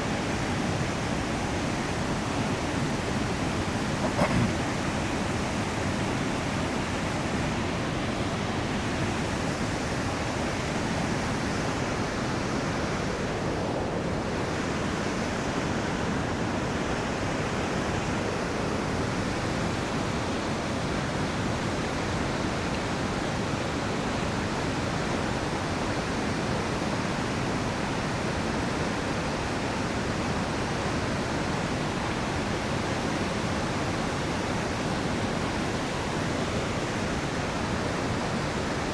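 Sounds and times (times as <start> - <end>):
river water rushing over rapids: 0.0 - 38.9.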